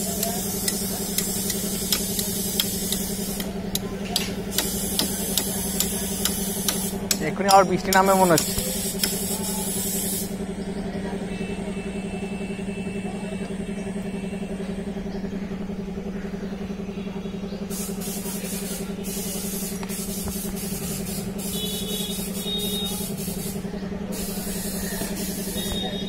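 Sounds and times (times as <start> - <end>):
steady low machine hum: 0.0 - 26.0
street background noise: 0.0 - 26.0.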